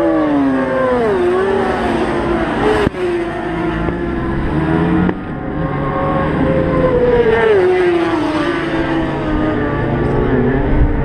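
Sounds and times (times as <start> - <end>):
sport bike engines racing: 0.0 - 11.0.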